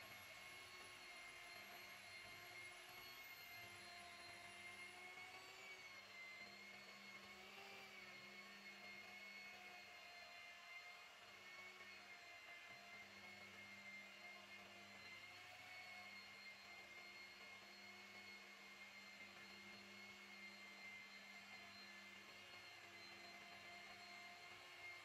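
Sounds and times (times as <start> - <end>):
electric polisher whining on glass: 0.0 - 25.0.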